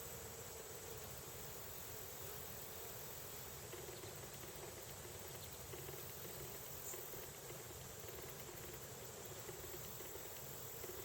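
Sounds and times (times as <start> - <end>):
high-pitched insect chorus: 0.0 - 11.0
low background hiss: 0.0 - 11.0.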